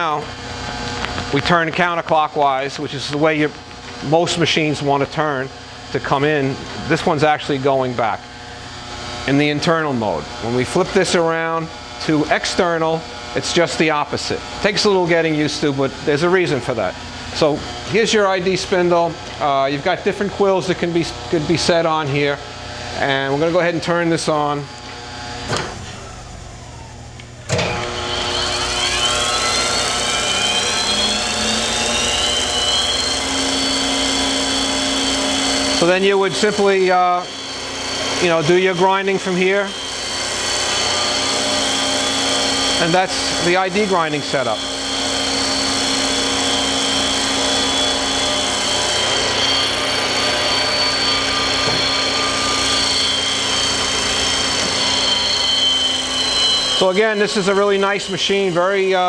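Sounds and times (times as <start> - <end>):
grinding spindle whine: 0.0 - 59.0
machine hum: 0.0 - 59.0.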